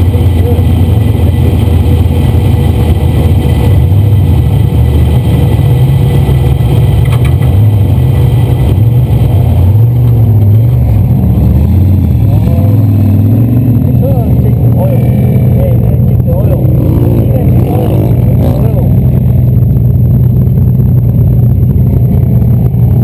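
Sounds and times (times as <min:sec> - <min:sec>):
engine running loud: 0:00.0 - 0:23.0.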